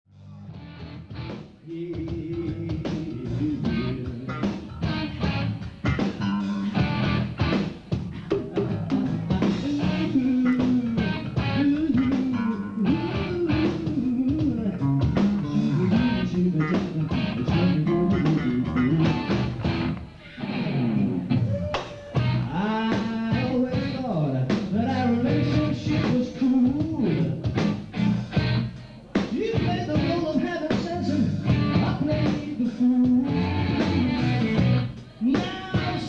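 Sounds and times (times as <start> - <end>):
electric guitar: 0.2 - 36.0
drum kit: 0.3 - 36.0
person singing: 1.6 - 7.0, 8.1 - 19.3, 20.2 - 36.0.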